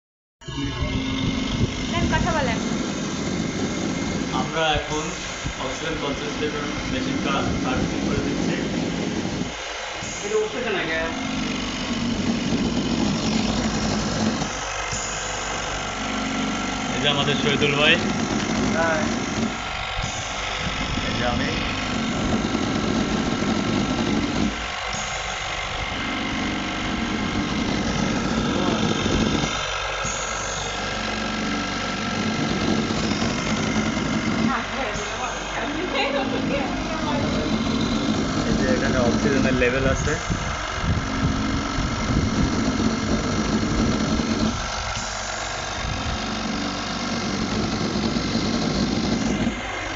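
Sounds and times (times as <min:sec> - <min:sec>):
oxygen concentrator humming: 0:00.4 - 0:49.9.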